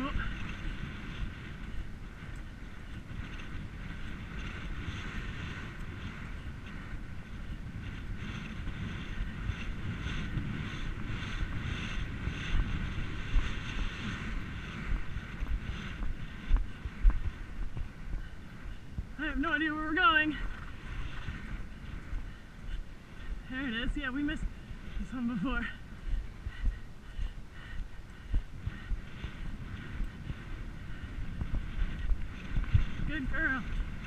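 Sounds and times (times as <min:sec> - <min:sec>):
horse stride and tack: 0:00.0 - 0:34.0
wind rushing over microphone: 0:00.0 - 0:34.0.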